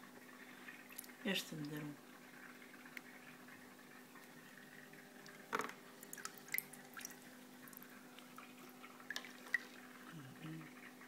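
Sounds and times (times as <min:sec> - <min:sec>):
water dripping and splashing: 0:00.2 - 0:11.0.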